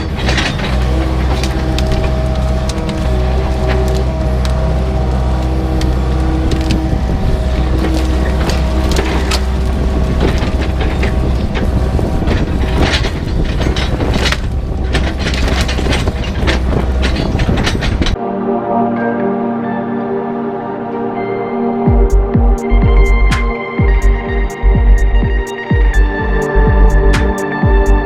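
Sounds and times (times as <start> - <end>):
excavator diesel engine running: 0.0 - 18.2, 21.9 - 28.0.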